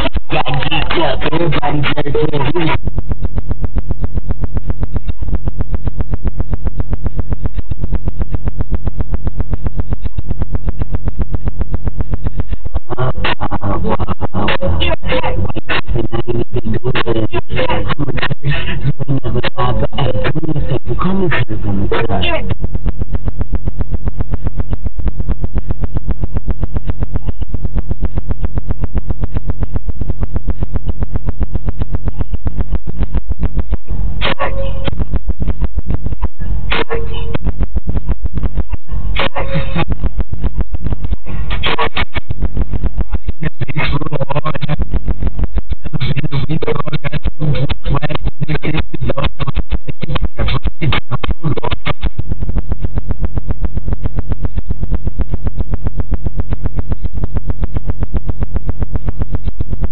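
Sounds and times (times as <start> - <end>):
pulsing synthesizer bass: 0.0 - 59.9.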